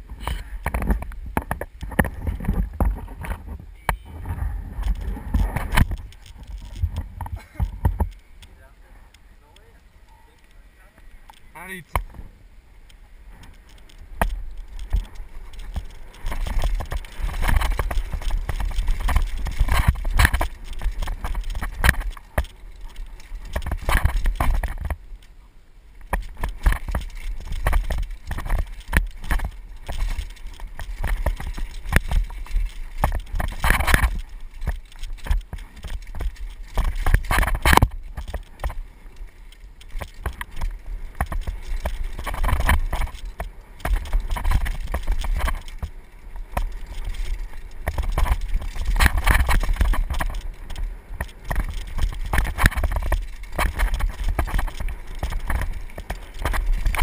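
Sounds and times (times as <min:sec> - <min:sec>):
bike frame and chain rattling: 0:00.0 - 0:12.2, 0:12.8 - 0:25.3, 0:25.9 - 0:57.0
tyres on dirt: 0:00.0 - 0:57.0.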